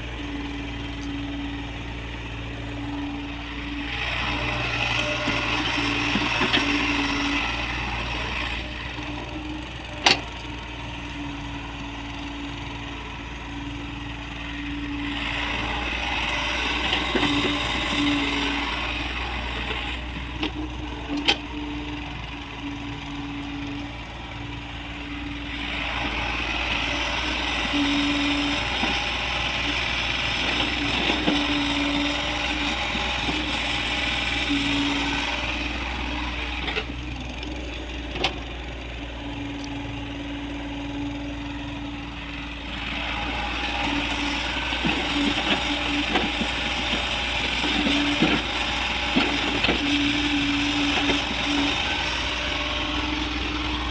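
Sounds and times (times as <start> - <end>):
diesel engine running: 0.0 - 53.9
hydraulic whine: 0.0 - 53.9.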